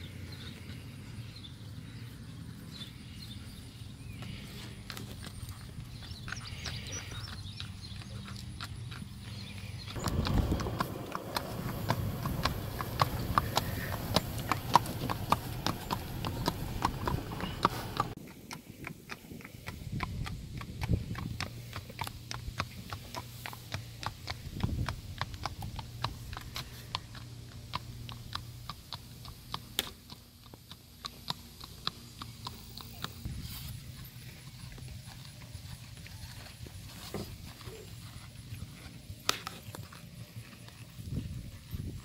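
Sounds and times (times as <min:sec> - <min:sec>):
horse hooves on asphalt: 0:04.1 - 0:42.0.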